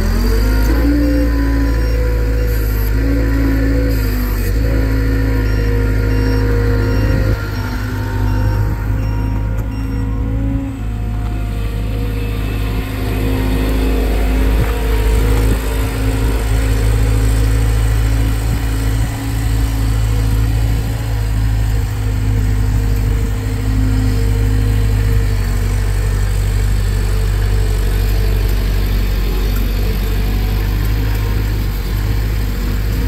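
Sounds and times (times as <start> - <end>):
loader engine running: 0.0 - 33.0.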